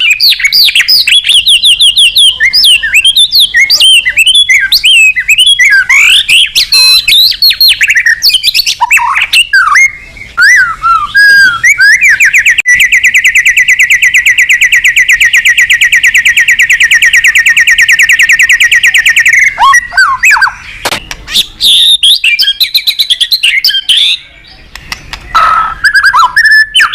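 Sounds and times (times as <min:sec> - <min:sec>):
bird trill: 0:00.0 - 0:26.9
songbird whistling: 0:00.0 - 0:26.9.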